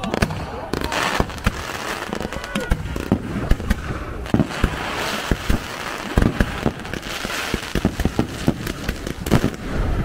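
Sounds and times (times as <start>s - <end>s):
crackling hiss of fireworks: 0.0s - 10.0s.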